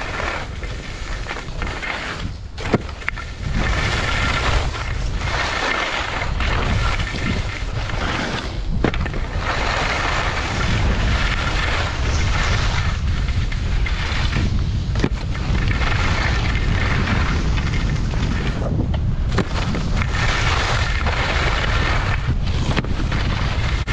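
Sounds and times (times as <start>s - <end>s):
skis scraping on packed snow: 0.0s - 23.9s
wind buffeting microphone: 0.0s - 23.9s.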